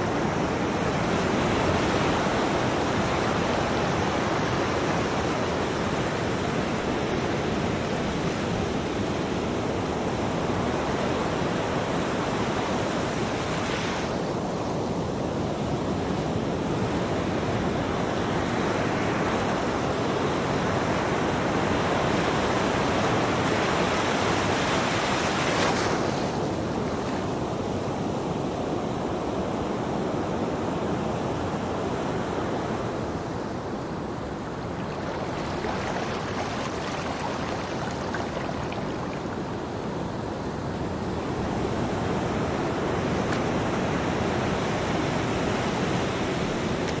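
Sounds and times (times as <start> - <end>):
ocean surf washing on beach: 0.0 - 47.0.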